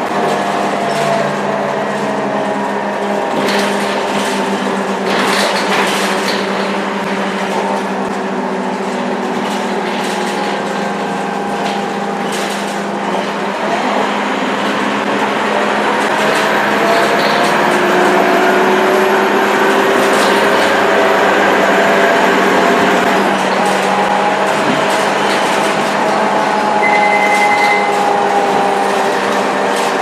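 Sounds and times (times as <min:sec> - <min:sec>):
bus diesel engine accelerating: 0:00.0 - 0:30.0.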